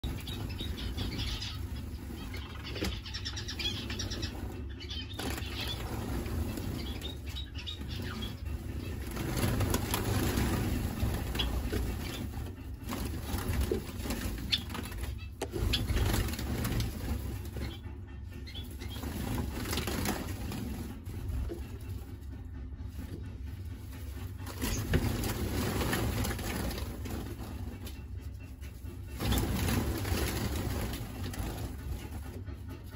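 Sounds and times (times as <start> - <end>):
finches fluttering wings: 0.0 - 17.8, 18.5 - 22.0, 24.2 - 32.4.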